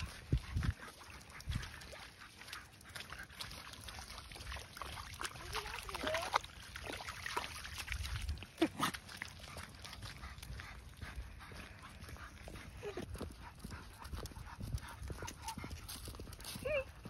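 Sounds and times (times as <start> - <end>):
dog splashing in puddle: 0.0 - 17.0.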